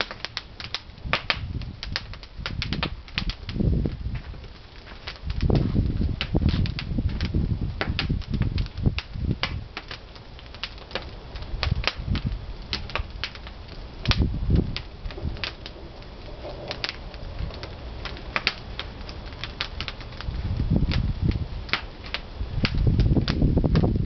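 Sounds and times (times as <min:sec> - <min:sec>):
firewood crackling and popping: 0:00.0 - 0:24.0
low rumble of fire: 0:00.0 - 0:24.0.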